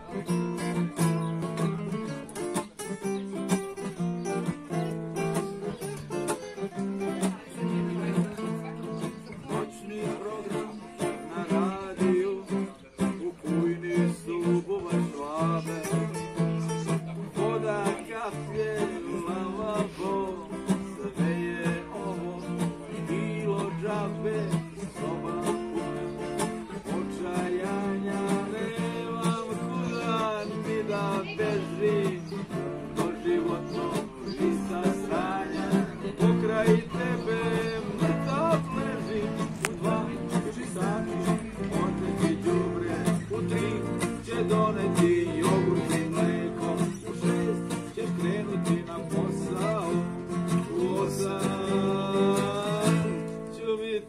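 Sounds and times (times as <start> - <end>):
acoustic guitar duet: 0.0 - 54.0.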